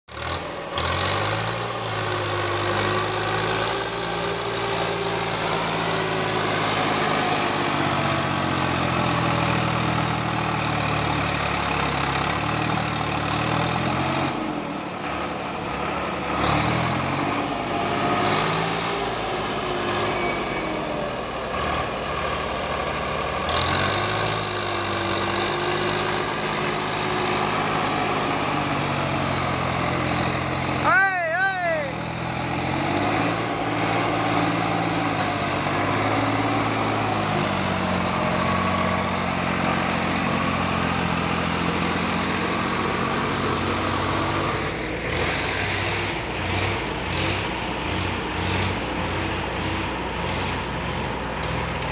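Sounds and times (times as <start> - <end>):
tractor diesel engine running: 0.1 - 51.9.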